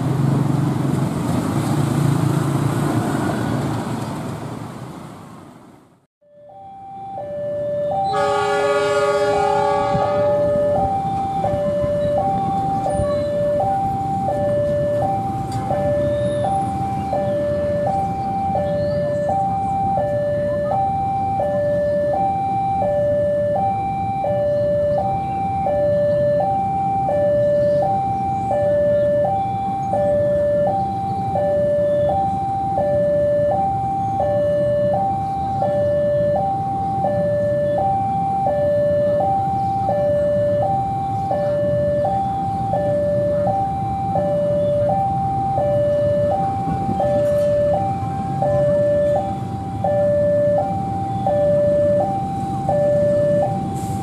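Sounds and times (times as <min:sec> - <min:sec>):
locomotive diesel engine running: 0:00.0 - 0:54.0
two-tone electronic warning signal: 0:06.2 - 0:54.0.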